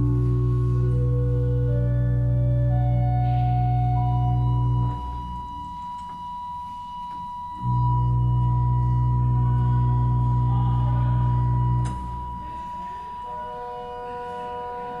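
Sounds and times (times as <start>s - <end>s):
deep organ pedal note: 0.0s - 6.0s, 7.6s - 15.0s
pipe organ chords: 0.0s - 15.0s.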